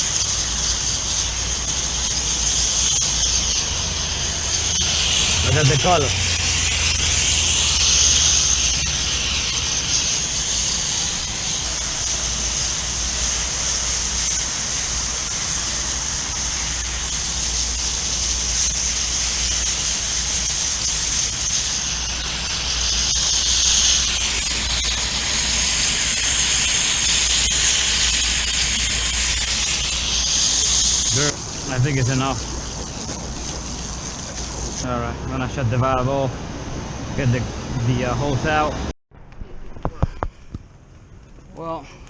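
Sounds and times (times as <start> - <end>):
hose spray hissing: 0.0 - 34.9
low hum: 0.0 - 42.0.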